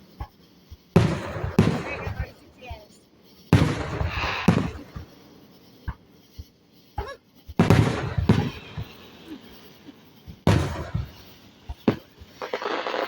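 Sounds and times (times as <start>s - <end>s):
firework booms with crackle: 0.0s - 13.0s
small firework pops: 0.0s - 13.0s.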